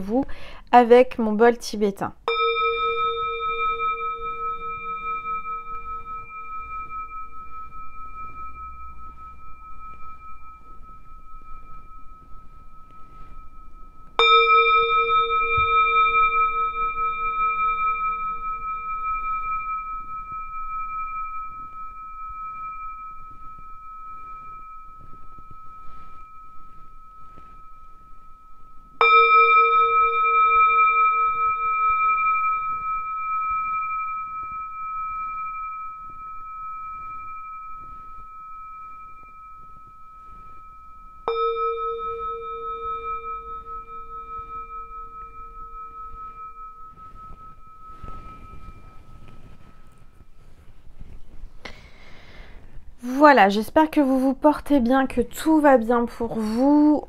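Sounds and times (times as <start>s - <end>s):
singing bowl ringing: 0.0s - 0.6s, 2.2s - 57.0s.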